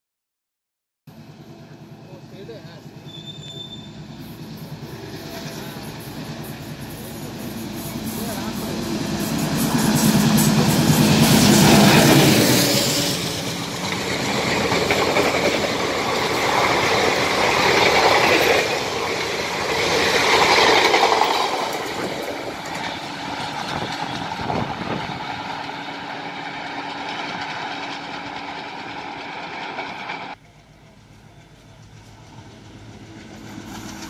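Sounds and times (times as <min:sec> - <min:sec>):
train rushing past: 0:01.1 - 0:34.0.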